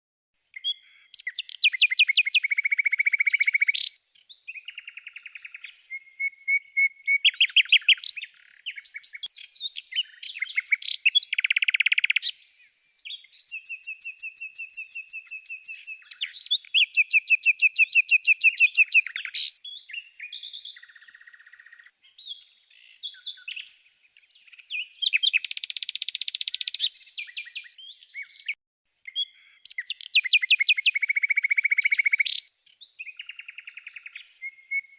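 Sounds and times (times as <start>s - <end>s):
songbird trilling and chirping: 0.5s - 34.9s.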